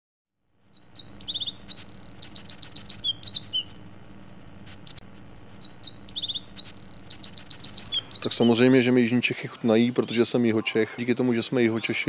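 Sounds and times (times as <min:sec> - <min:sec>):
songbirds chirping and trilling: 0:00.4 - 0:12.0.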